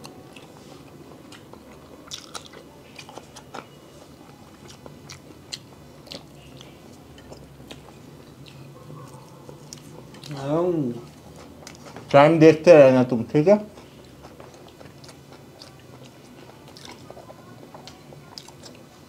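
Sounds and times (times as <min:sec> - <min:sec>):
people chewing eggs: 0:00.0 - 0:12.7, 0:13.3 - 0:19.0.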